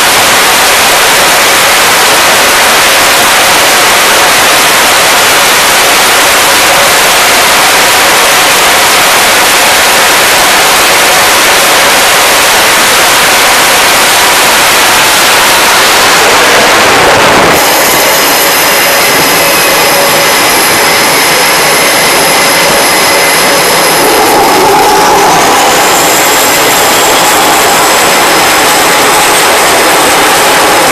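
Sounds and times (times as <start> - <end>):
high jet engine whines: 0.0 - 30.9
jet engine at full power: 0.0 - 30.9.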